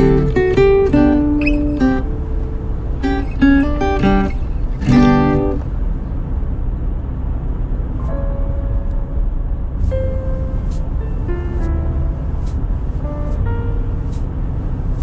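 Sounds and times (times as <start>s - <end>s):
acoustic guitar music: 0.0s - 6.6s, 8.0s - 15.0s
car driving rumble: 0.0s - 15.0s.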